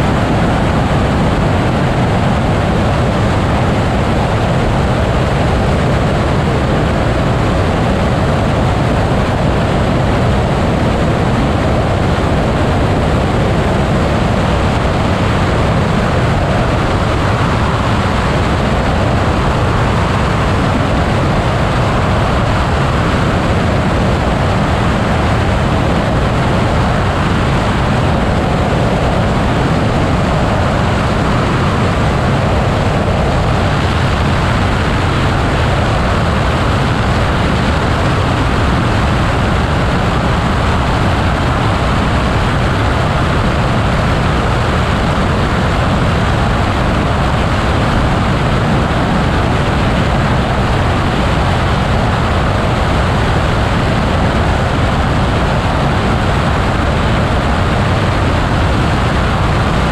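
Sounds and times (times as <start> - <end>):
glider in-flight rumble and airflow hiss: 0.0 - 59.9.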